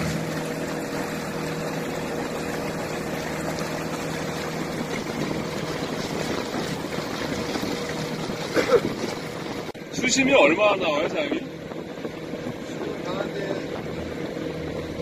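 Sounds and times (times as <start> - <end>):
motorboat engine humming: 0.0 - 15.0
water rushing along hull: 0.0 - 15.0.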